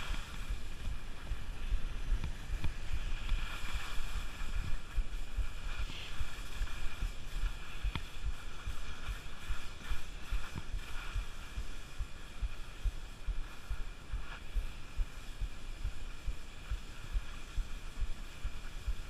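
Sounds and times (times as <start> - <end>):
skis scraping over snow: 0.0 - 19.0
wind gusting on microphone: 0.0 - 19.0.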